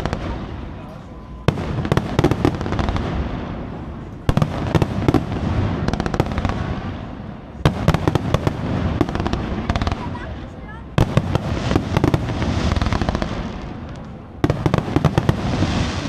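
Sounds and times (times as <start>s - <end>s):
fireworks bangs and crackle: 0.0s - 16.0s
low rumble of fireworks: 0.0s - 16.0s.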